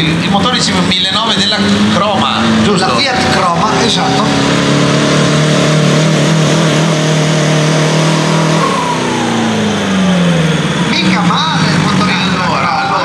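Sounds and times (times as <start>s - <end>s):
tractor engine revving: 0.0s - 13.0s.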